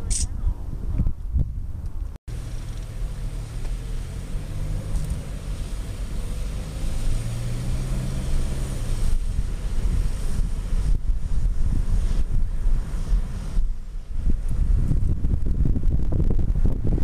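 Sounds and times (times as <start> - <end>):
wind buffeting microphone: 0.0 - 17.0
car engine hum: 2.3 - 17.0
tyre rumble and road hiss: 2.3 - 17.0.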